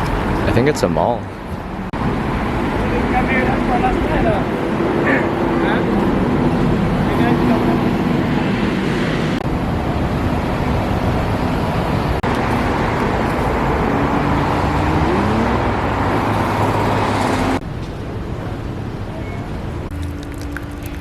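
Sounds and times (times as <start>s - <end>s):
road traffic engine noise: 0.0s - 21.0s.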